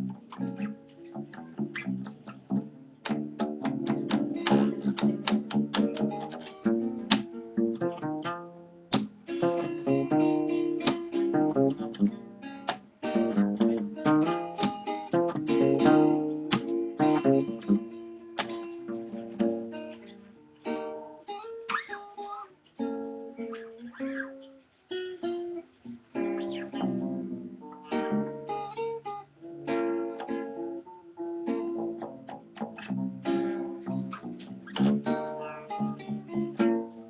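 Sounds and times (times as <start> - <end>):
acoustic bass guitar: 0.0 - 21.0, 21.7 - 37.0
acoustic guitar playing: 0.0 - 37.0.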